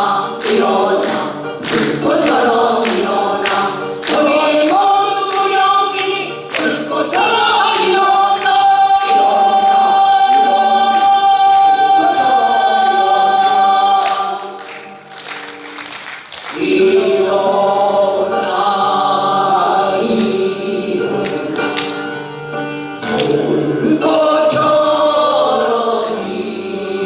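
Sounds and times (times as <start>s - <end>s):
group singing folk song: 0.0s - 27.0s.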